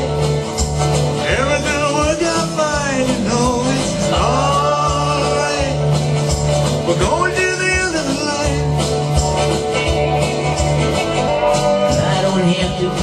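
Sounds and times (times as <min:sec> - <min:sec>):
acoustic guitar strumming: 0:00.0 - 0:13.0
country rock band music: 0:00.0 - 0:13.0.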